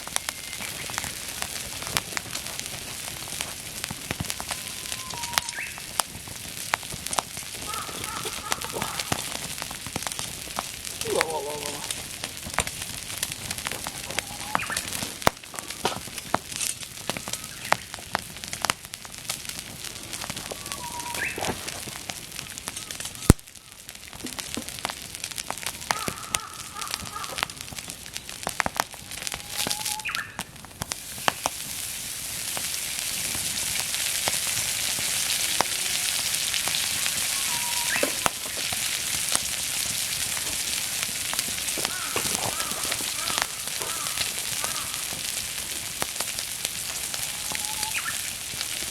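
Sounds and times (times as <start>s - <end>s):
meat sizzling over fire: 0.0s - 48.9s
wood fire crackling and popping: 0.0s - 48.9s.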